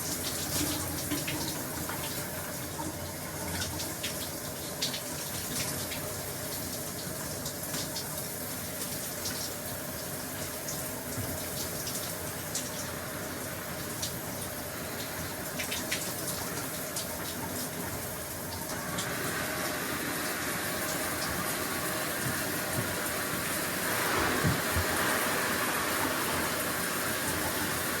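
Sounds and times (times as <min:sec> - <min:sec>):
shower water running: 0:00.0 - 0:28.0
water drips and splashes: 0:00.0 - 0:28.0.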